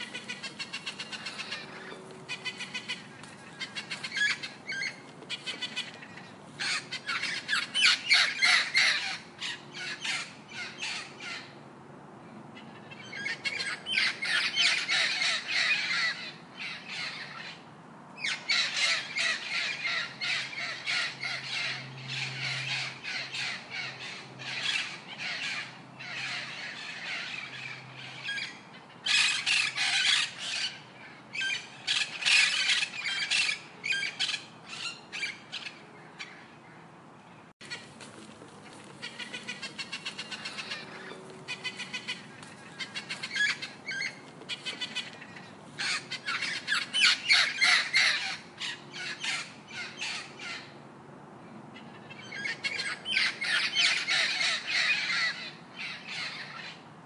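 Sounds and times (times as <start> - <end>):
birds chattering and squawking: 0.0 - 56.9.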